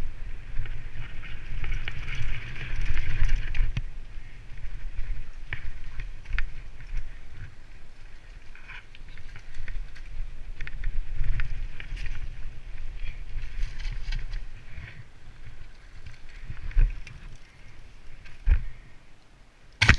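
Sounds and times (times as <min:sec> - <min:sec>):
wind buffeting microphone: 0:00.0 - 0:19.0
tyres on wet dirt and gravel: 0:00.2 - 0:19.0
bike frame rattling and clicking: 0:00.5 - 0:07.5, 0:08.2 - 0:18.6.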